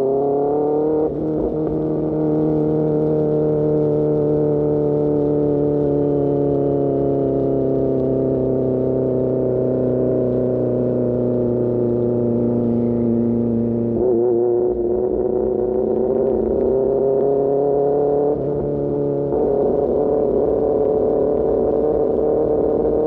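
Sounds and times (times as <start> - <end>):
motorcycle engine revving down: 0.0 - 23.0.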